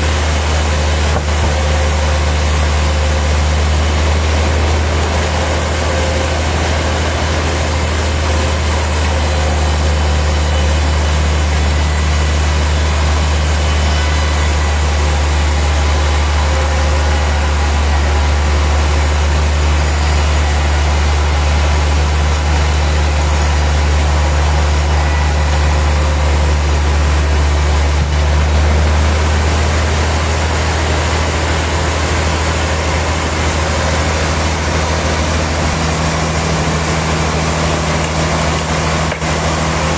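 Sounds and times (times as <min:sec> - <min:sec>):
heavy machinery humming: 0:00.0 - 0:39.9.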